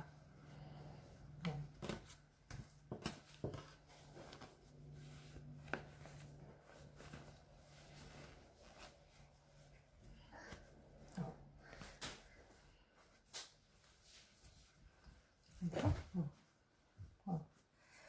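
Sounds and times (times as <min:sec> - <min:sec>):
fabric rustling: 0:00.0 - 0:17.7.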